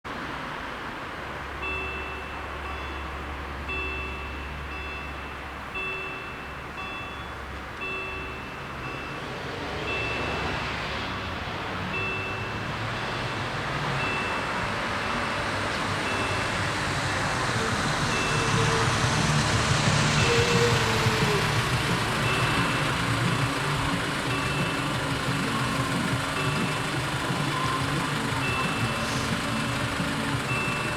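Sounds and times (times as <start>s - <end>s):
level crossing warning bells: 1.0s - 30.9s.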